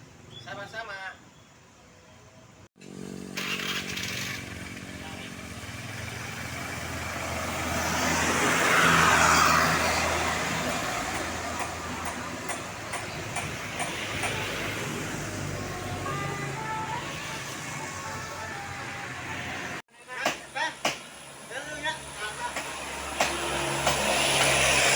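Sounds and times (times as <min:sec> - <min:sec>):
road vehicle passing: 0:02.8 - 0:19.8, 0:20.7 - 0:24.9.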